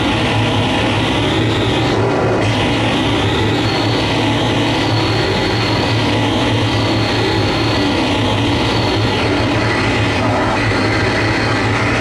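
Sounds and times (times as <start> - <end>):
harsh amplified noise music: 0.0 - 12.0
steady low hum: 0.0 - 12.0.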